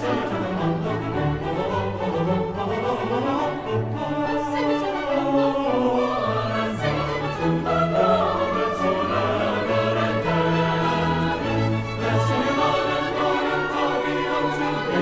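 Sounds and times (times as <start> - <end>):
choir singing: 0.0 - 15.0
symphony orchestra: 0.0 - 15.0.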